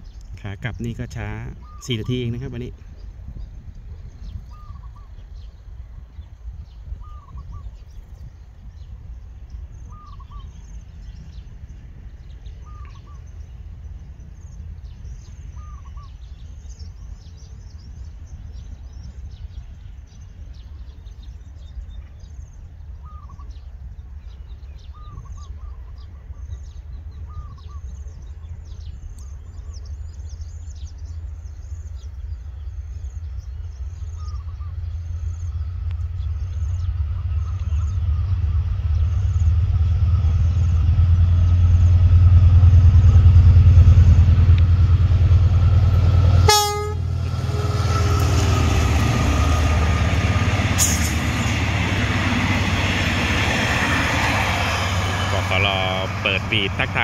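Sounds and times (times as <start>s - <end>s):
diesel train rumble: 0.0s - 22.0s, 22.6s - 57.0s
birds chirping: 0.0s - 57.0s.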